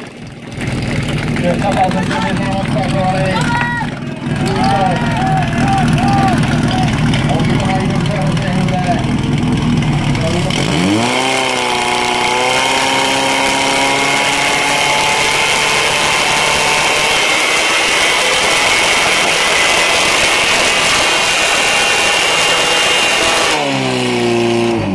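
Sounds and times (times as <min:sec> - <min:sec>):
pump engine running at full revs: 0:00.0 - 0:24.9.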